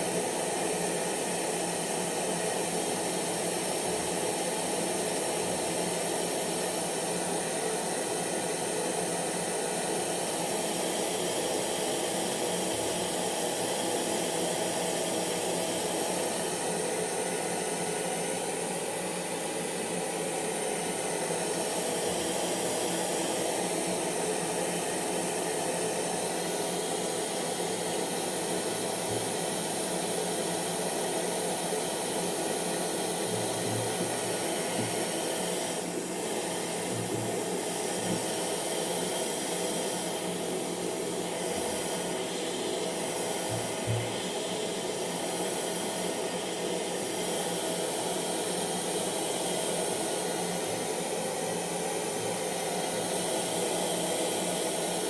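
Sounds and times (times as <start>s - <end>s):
hair dryer air rushing: 4.2s - 55.0s.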